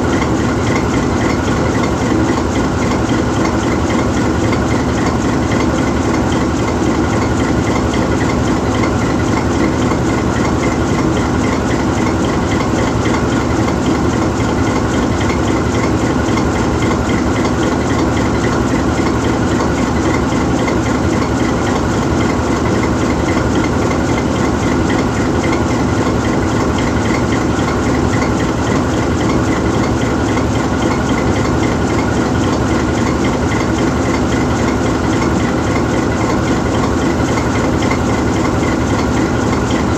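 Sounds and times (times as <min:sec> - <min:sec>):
locomotive diesel engine idling: 0:00.0 - 0:39.9.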